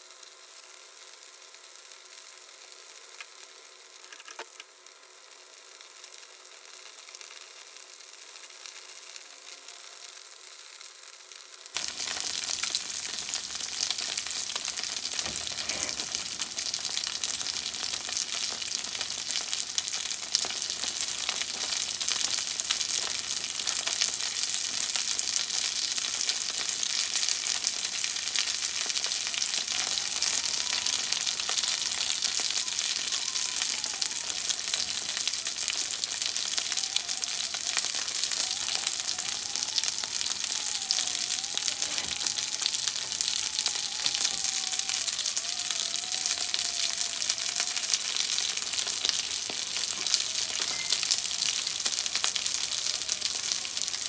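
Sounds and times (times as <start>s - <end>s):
dumplings sizzling in a pan: 0.0s - 54.0s.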